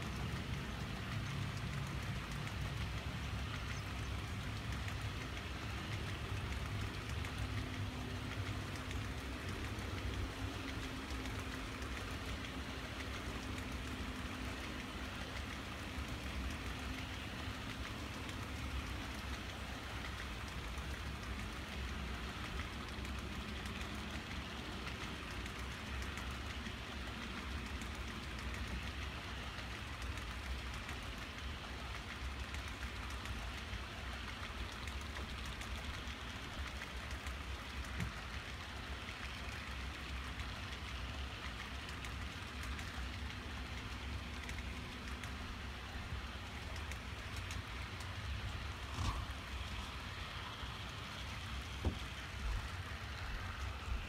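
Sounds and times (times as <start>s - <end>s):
model train wheels rattling on rail: 0.0s - 54.0s.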